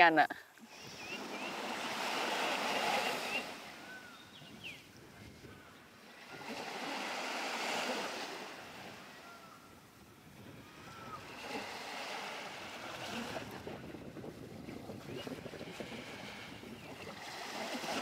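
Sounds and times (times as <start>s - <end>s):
small waves breaking on beach: 0.6s - 18.0s.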